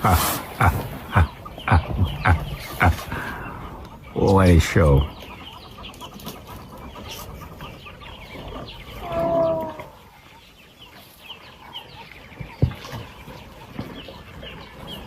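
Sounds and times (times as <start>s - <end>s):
birds chirping: 0.0s - 15.0s
drawn-out bird call: 0.0s - 15.0s.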